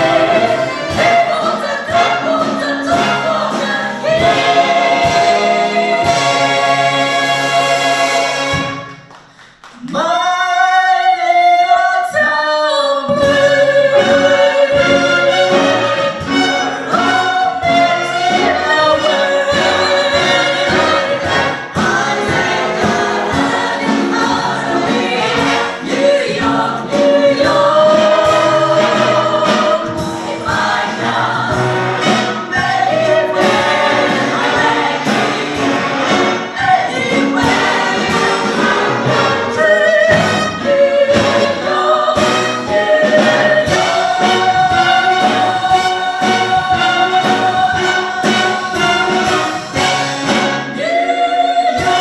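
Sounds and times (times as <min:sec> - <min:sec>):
women's chorus singing in harmony: 0:00.0 - 0:08.8, 0:09.9 - 0:52.0
big band jazz: 0:00.0 - 0:09.1, 0:13.1 - 0:52.0.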